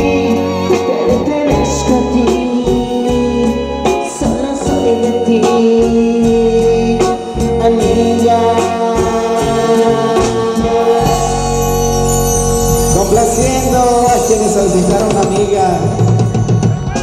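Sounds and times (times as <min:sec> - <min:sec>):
electric guitar: 0:00.0 - 0:17.0
live band playing: 0:00.0 - 0:17.0.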